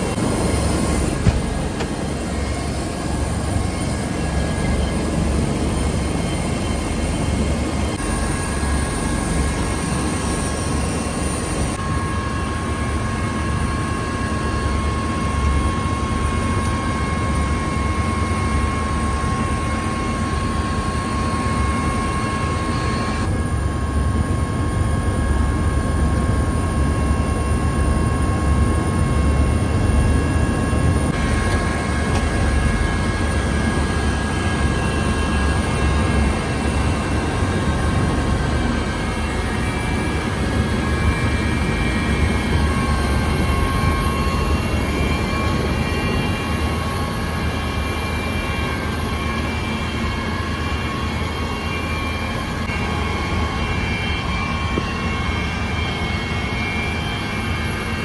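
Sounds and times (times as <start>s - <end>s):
helicopter engine and rotor drone: 0.0s - 58.0s
thin steady whine: 0.0s - 58.0s.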